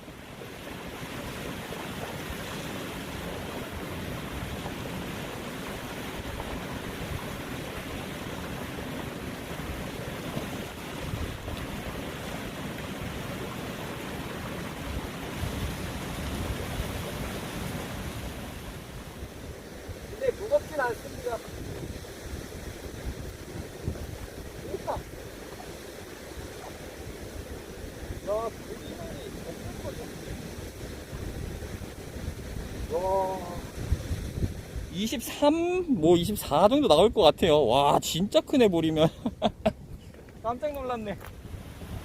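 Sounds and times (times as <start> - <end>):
wind on microphone: 0.0 - 35.2, 41.2 - 42.0
sea waves washing: 0.0 - 42.0.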